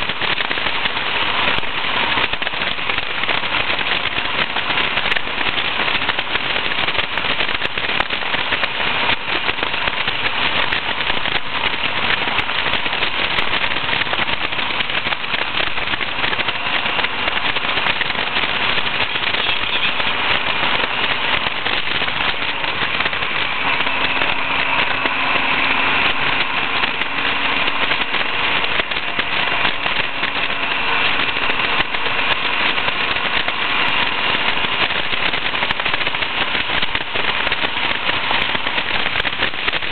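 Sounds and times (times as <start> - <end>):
faint car engine running: 0.0 - 39.9
wind rushing over microphone: 0.0 - 39.9.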